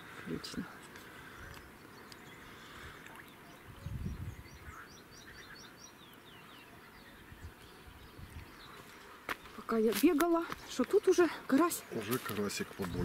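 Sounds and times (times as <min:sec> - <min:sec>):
outdoor background noise: 0:00.0 - 0:13.0
small songbird chirping: 0:00.2 - 0:13.0.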